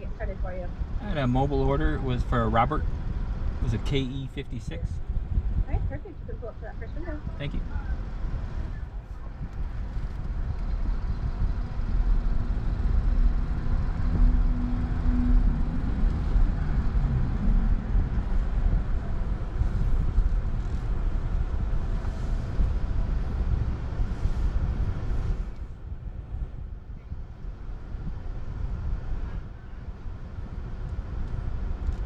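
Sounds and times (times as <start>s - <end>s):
tyre and road rumble: 0.0s - 32.0s.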